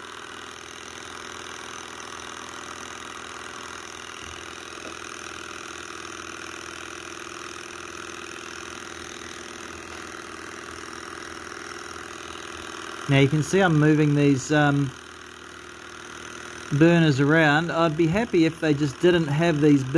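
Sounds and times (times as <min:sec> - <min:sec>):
engine mechanical clatter: 0:00.2 - 0:19.9.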